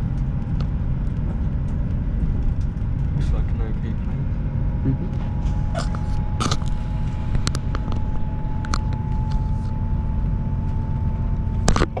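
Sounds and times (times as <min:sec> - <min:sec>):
thin constant whine: 0:00.0 - 0:12.0
train rumble inside carriage: 0:00.0 - 0:12.0.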